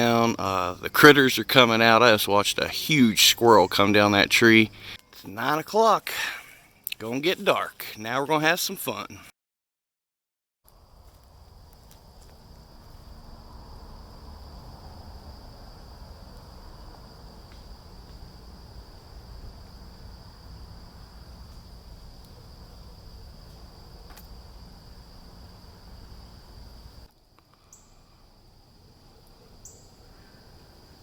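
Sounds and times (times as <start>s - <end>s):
insects trilling: 0.0s - 9.2s, 10.7s - 31.0s.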